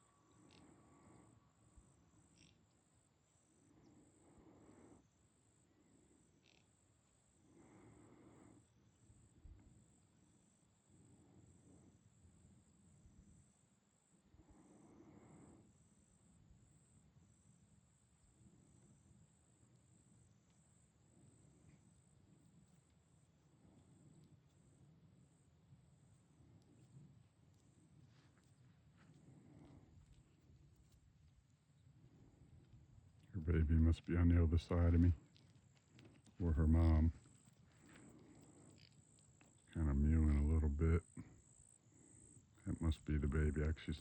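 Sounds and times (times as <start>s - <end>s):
faint insect chirping: 0.0s - 44.0s.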